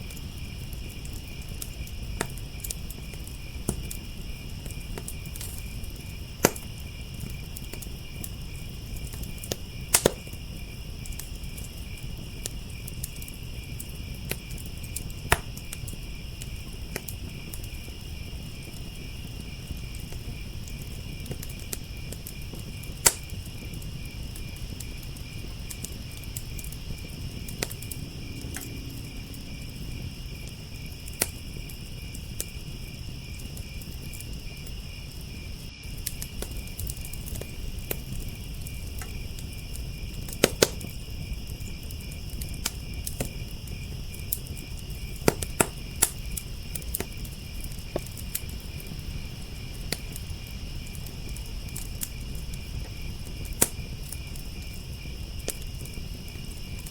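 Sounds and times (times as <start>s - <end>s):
crickets chirping: 0.0s - 56.9s
sharp fire pops: 0.0s - 56.9s
wood fire crackling: 0.0s - 56.9s.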